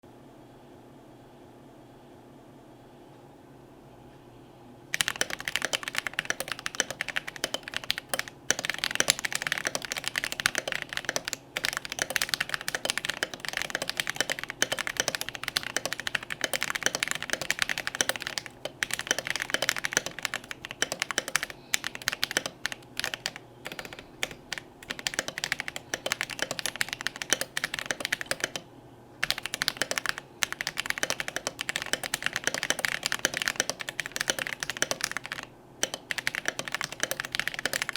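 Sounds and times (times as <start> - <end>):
fast typing on mechanical keyboard: 4.9 - 28.6, 29.2 - 37.9.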